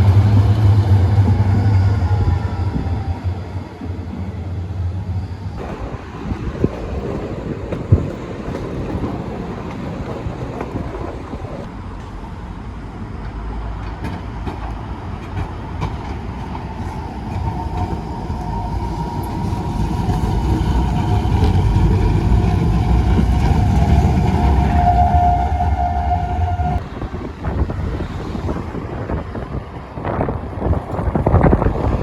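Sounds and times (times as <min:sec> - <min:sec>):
tram running on rails: 0:00.0 - 0:32.0.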